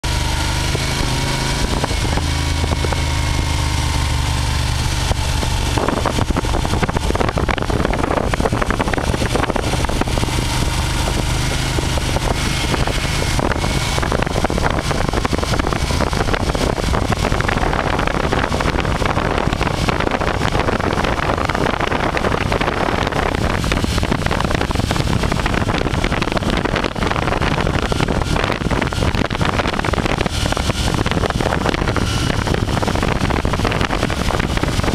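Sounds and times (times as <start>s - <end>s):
motorcycle engine running: 0.0s - 34.9s
wind rushing over microphone: 0.0s - 34.9s.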